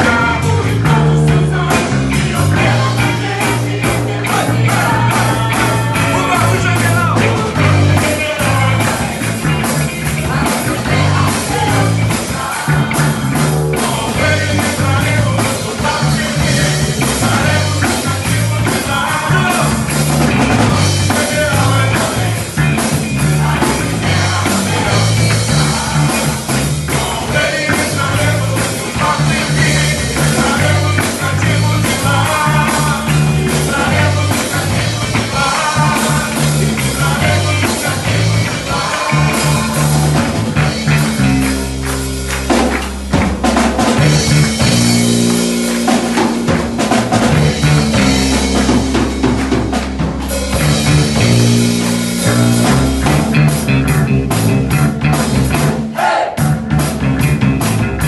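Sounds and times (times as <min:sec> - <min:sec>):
person singing: 0:00.0 - 0:41.5, 0:45.8 - 0:53.9
rock band playing: 0:00.0 - 0:58.0.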